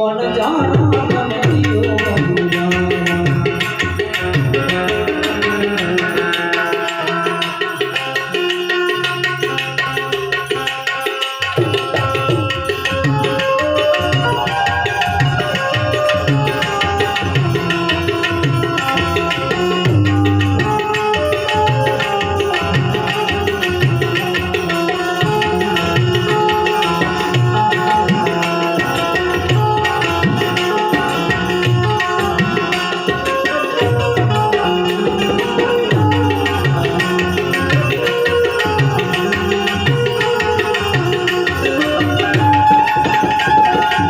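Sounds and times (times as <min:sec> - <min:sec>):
harmonium sustained notes: 0:00.0 - 0:44.0
hand drum rhythm: 0:00.4 - 0:44.0.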